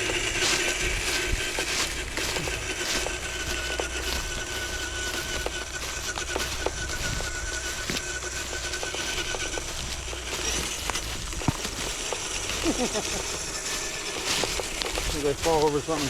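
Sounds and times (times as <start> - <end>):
electric motor whine: 0.0 - 16.0
twigs clicking and crunching: 0.0 - 16.0.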